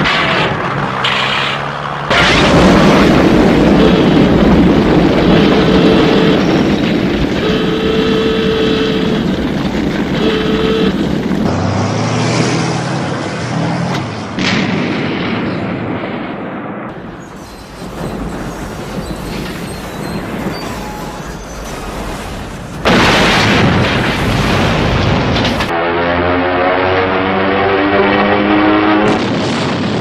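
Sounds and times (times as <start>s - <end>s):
dense roar with steady tones: 0.0s - 30.0s.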